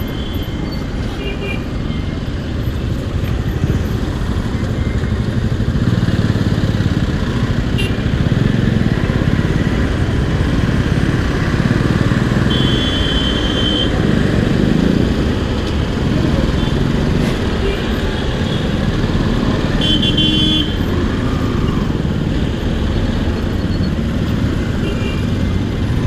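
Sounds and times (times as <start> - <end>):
motorcycle engine running: 2.8 - 26.0.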